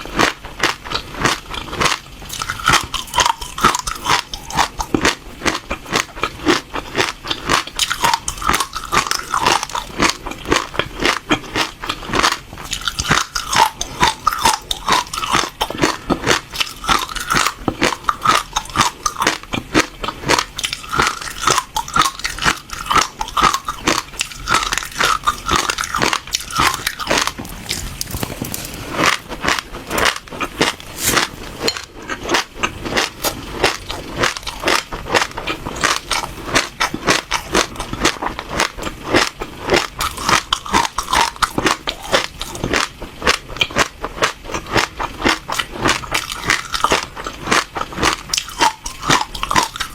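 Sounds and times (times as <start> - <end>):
seeds crunching while chewed: 0.0 - 49.9.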